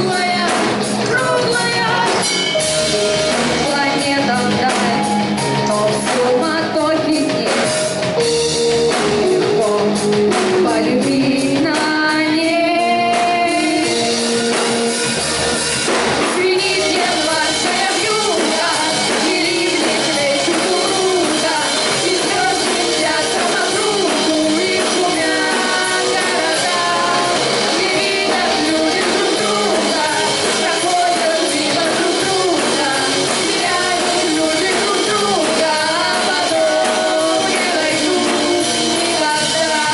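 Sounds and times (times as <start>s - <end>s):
person singing: 0.0s - 15.0s, 16.2s - 39.9s
rock band playing live: 0.0s - 39.9s.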